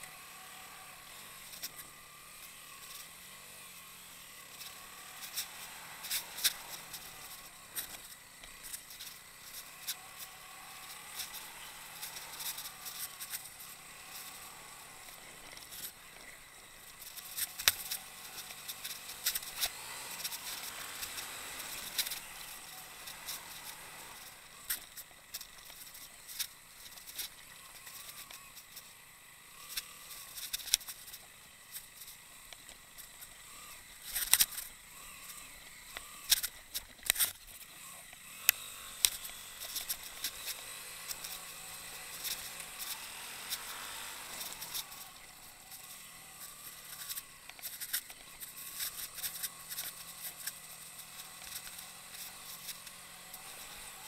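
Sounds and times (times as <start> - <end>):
motorcycle engine: 0.0 - 54.0
steady hiss: 0.0 - 54.0.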